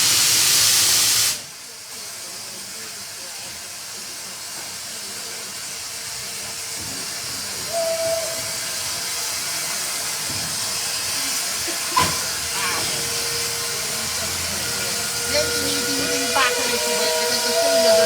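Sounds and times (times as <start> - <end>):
locomotive steam hissing: 0.0 - 18.0.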